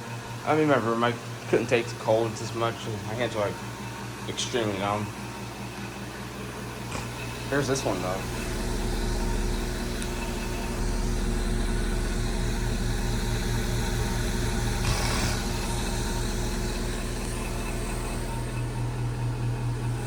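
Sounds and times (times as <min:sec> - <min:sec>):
heat pump compressor hum: 0:00.0 - 0:20.0.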